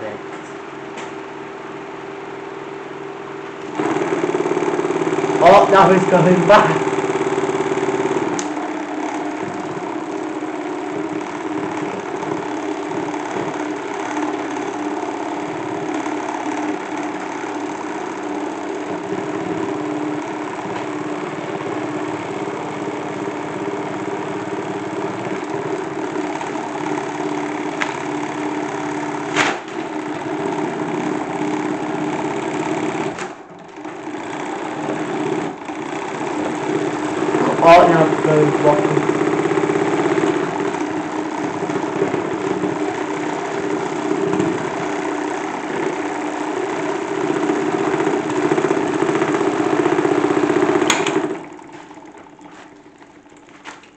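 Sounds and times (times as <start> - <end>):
small motor humming: 2.1 - 53.9.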